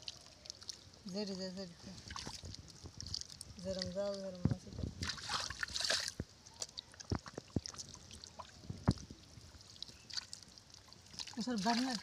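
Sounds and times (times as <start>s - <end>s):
faint water trickle: 0.0s - 12.0s.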